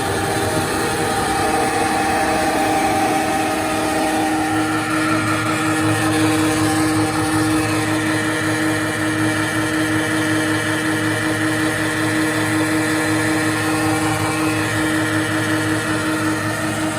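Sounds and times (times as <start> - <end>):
pelletizing machine motor hum: 0.0 - 16.9.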